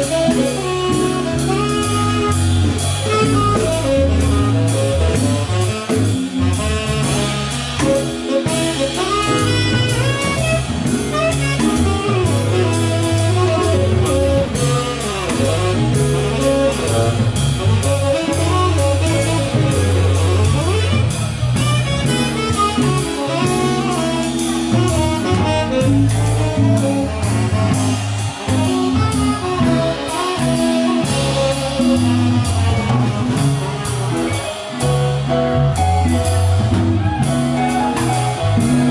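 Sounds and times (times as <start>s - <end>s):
bass line: 0.0s - 38.9s
drum kit: 0.0s - 38.9s
electric guitar: 0.0s - 38.9s
saxophone: 0.0s - 38.9s.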